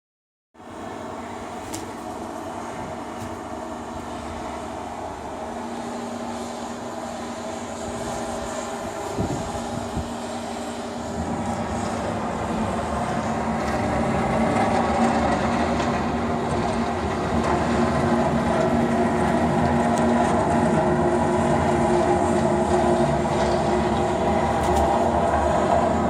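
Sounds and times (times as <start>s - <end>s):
steady machine hum: 0.6s - 26.0s.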